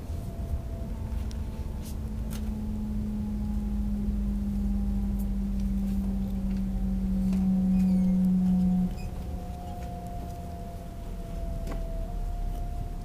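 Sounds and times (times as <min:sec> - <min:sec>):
low hum sliding down in pitch: 0:00.0 - 0:13.0
train interior rumble: 0:00.0 - 0:13.0.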